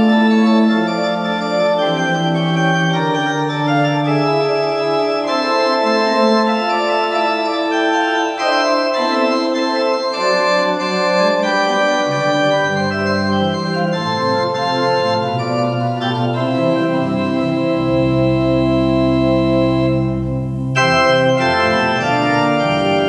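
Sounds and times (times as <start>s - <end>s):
church organ playing: 0.0s - 23.0s
deep organ pedal notes: 0.0s - 23.0s.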